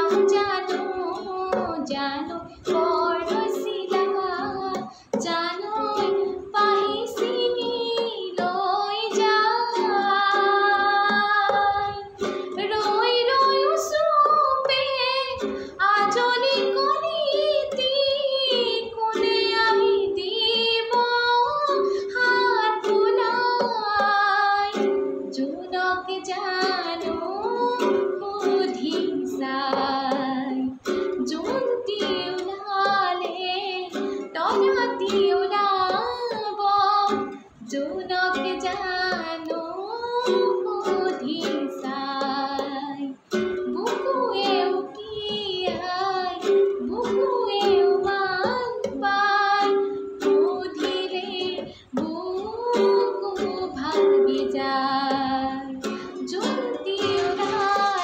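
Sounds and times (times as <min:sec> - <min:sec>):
strummed string accompaniment: 0:00.0 - 0:58.0
woman singing: 0:00.0 - 0:58.0.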